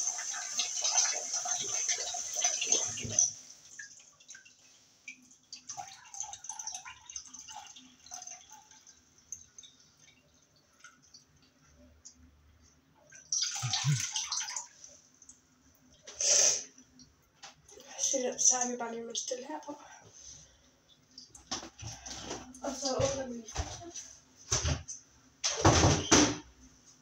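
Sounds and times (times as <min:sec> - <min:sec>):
tap water running: 0:00.0 - 0:26.4
water dripping in a steel sink: 0:00.2 - 0:19.8, 0:20.5 - 0:23.4.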